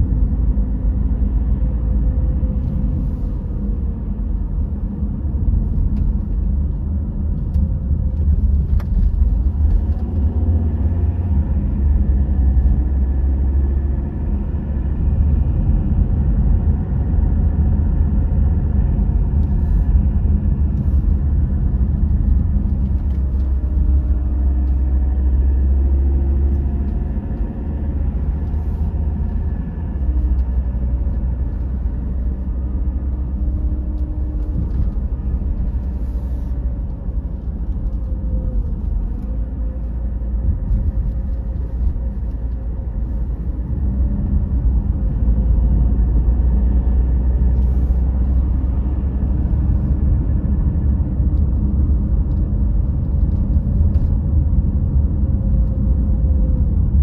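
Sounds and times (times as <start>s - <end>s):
car interior road rumble: 0.0s - 57.0s.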